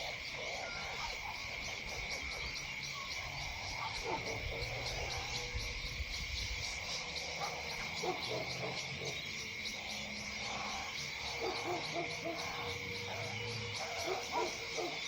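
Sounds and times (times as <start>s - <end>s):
frog calls: 0.0s - 15.0s
insects trilling: 0.0s - 15.0s
pulsing insect chirps: 0.0s - 15.0s.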